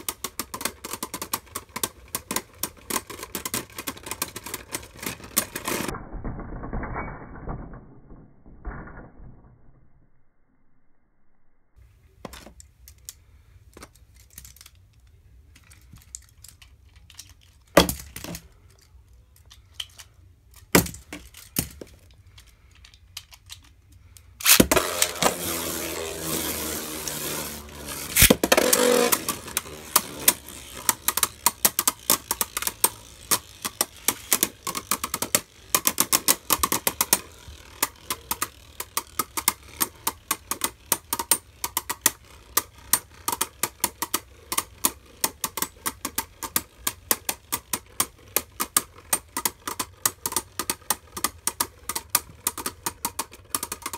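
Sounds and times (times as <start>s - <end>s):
spinning tops clacking on plastic: 0.0s - 5.9s, 15.6s - 53.9s
tops spinning and scraping: 0.0s - 7.8s, 15.4s - 53.9s.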